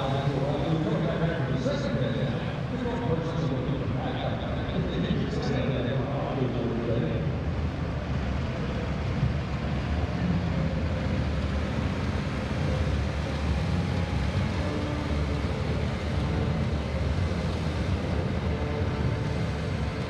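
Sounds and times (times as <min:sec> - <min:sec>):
aircraft engines rumbling: 0:00.0 - 0:20.0.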